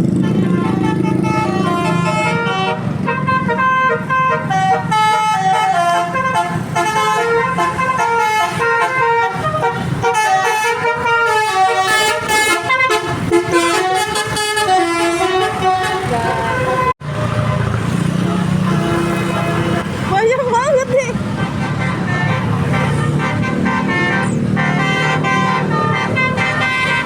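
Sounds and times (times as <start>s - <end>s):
musical air horn tune: 0.2s - 17.0s, 21.3s - 27.0s.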